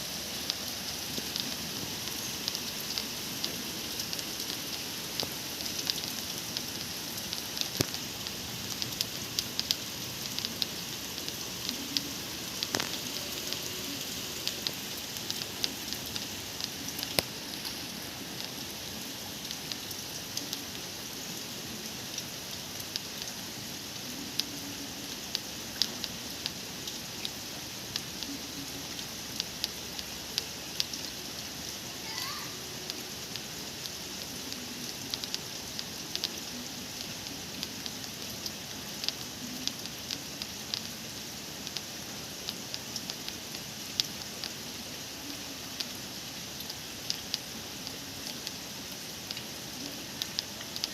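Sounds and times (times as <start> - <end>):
raindrops ticking close by: 0.0 - 50.9
steady rain: 0.0 - 50.9.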